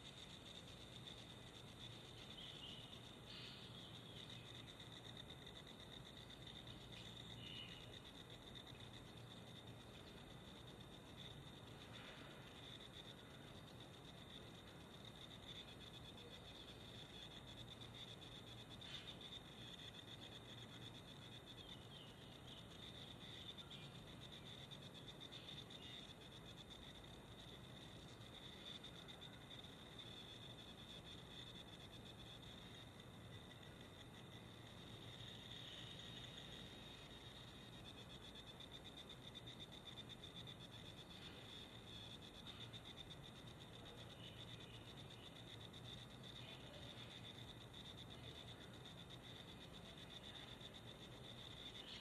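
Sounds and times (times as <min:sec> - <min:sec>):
faint chirps: 0:00.0 - 0:52.0
insects trilling: 0:00.0 - 0:52.0.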